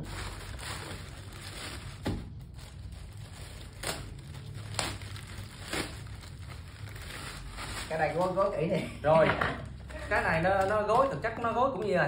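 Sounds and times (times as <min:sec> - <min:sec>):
plastic crackles: 0:00.0 - 0:08.7, 0:09.4 - 0:12.0
plastic bag rustling: 0:00.0 - 0:11.2.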